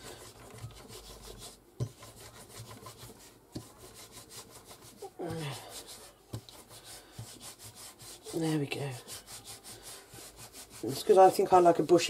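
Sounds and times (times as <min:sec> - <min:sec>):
hands rubbing clay: 0:00.0 - 0:12.0.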